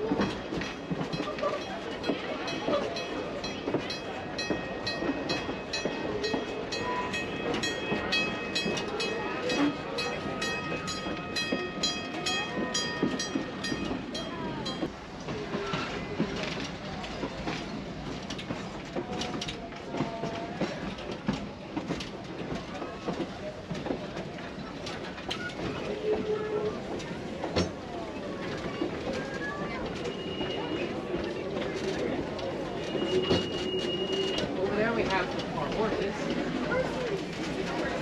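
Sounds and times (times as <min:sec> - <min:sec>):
irregular train rattle: 0:00.0 - 0:38.0
train wheels clicking on rail joints: 0:00.0 - 0:38.0.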